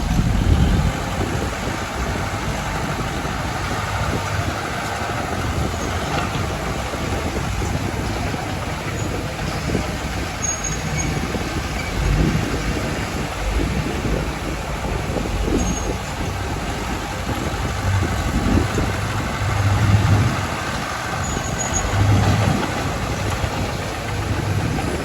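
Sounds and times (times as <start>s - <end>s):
diesel engines running: 0.0s - 25.0s.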